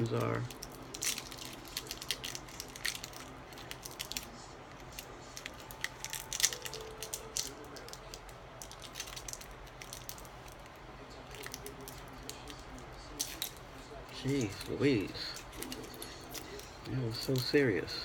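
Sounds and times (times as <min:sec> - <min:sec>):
plastic packaging being torn: 0:00.0 - 0:17.4.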